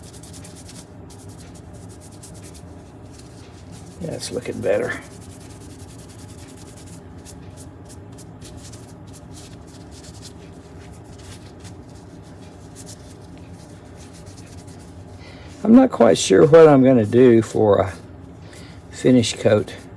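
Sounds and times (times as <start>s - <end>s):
cloth rubbing on wood: 0.0s - 18.0s
steady electrical hum: 0.0s - 19.9s.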